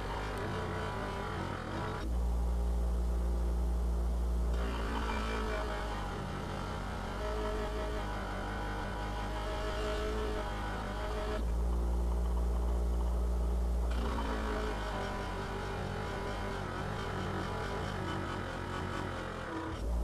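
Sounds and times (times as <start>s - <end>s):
grinder motor hum: 0.0s - 2.2s, 4.4s - 20.0s.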